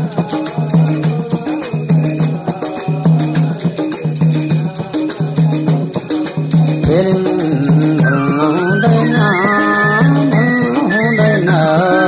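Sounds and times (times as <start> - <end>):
devotional instrumental music: 0.0 - 12.0
drum beat: 0.0 - 12.0
jingling percussion: 0.0 - 12.0.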